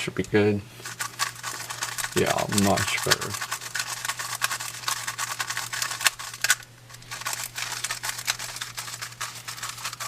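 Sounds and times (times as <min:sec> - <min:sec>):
puzzle cube plastic clicks: 0:01.0 - 0:10.0.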